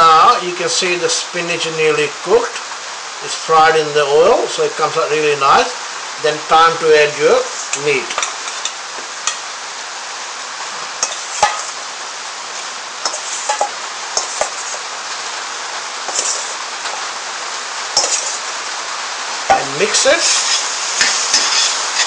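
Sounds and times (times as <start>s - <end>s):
paste sizzling in oil: 0.2s - 22.0s.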